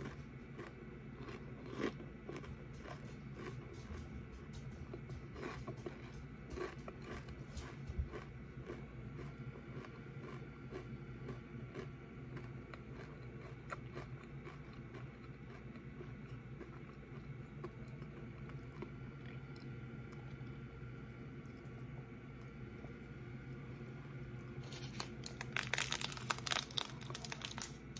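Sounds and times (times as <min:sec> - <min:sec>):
person chewing crunchy snack: 0:00.0 - 0:04.1, 0:04.7 - 0:20.8, 0:23.7 - 0:27.9.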